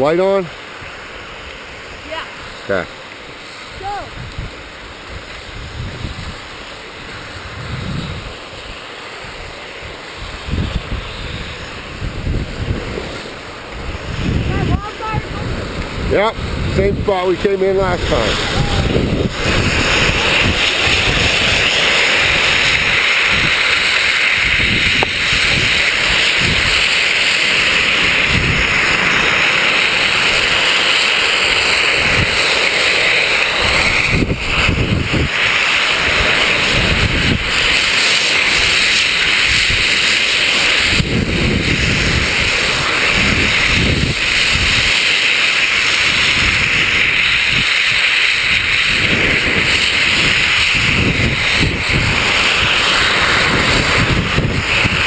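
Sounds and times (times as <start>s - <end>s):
wind buffeting microphone: 3.6s - 55.0s.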